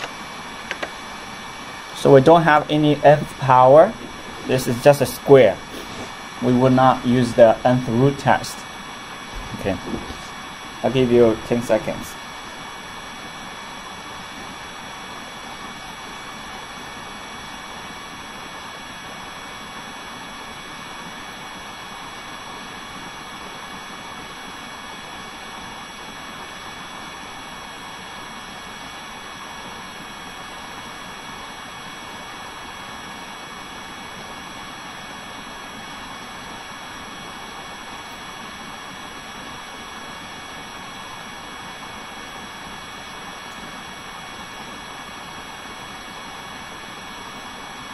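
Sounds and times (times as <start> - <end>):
faint high-pitched whines: 0.0 - 47.9
room noise hiss: 0.0 - 47.9.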